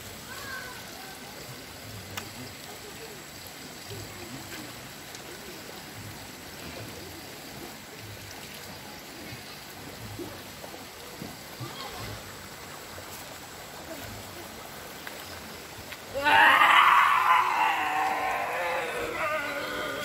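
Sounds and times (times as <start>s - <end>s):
water pouring onto wet concrete: 0.0s - 20.0s.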